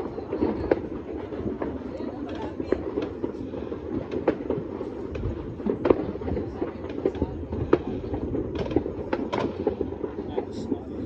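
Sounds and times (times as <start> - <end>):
distant fireworks bangs and pops: 0.0 - 11.0
sharp firework reports: 0.0 - 11.0.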